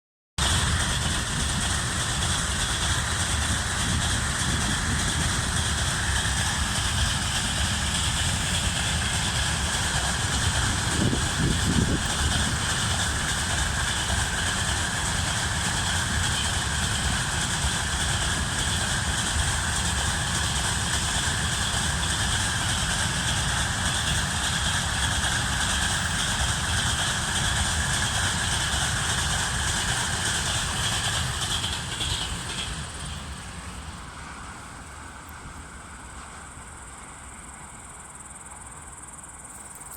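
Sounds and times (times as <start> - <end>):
train wheels rumbling on rails: 0.4 - 39.9.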